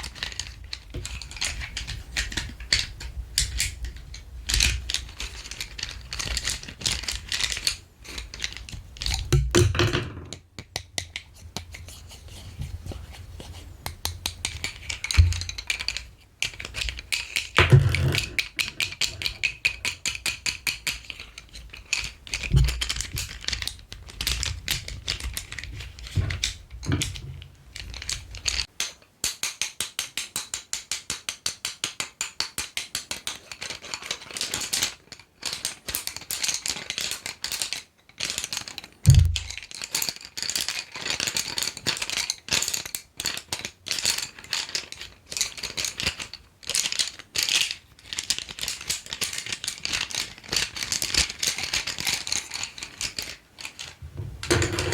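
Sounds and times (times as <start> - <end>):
colored pencils clicking and rattling: 0.0 - 54.9.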